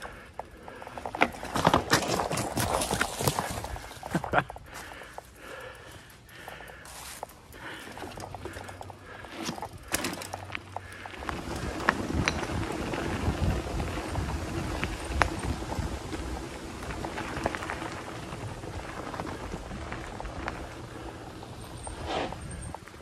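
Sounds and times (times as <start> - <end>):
bike knocks and rattles: 0.0 - 5.4, 6.6 - 23.0
bike tyres rumbling on dirt: 0.0 - 23.0.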